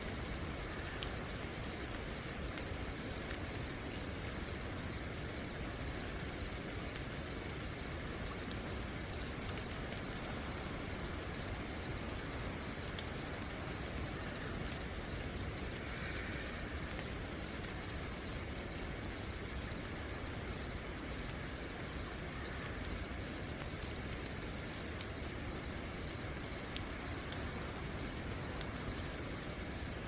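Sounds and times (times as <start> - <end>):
crickets chirping: 0.0 - 30.0
steady rain falling: 0.0 - 30.0.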